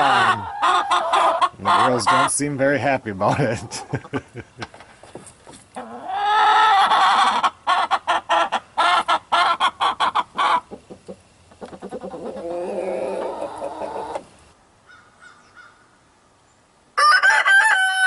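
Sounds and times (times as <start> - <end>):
chickens squawking and clucking: 0.0 - 15.7.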